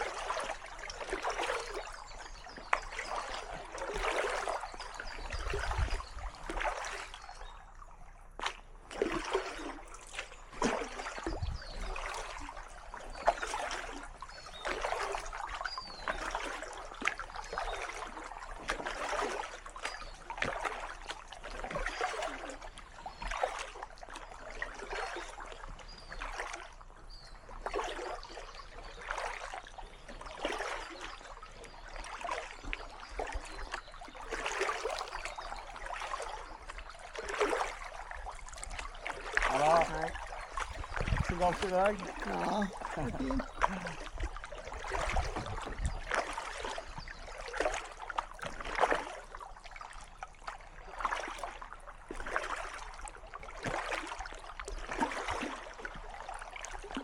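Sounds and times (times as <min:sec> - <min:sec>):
water dripping off paddle: 0:00.0 - 0:07.4, 0:08.4 - 0:57.0
paddle splashing in water: 0:00.0 - 0:57.0.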